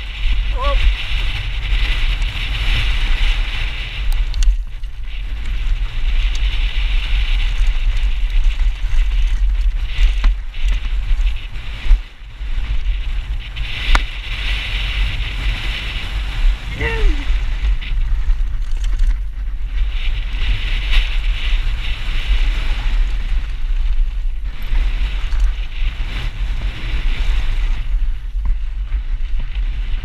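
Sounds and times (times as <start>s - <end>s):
tyres rumbling on rough trail: 0.0s - 30.0s
wind rushing over microphone: 0.0s - 30.0s.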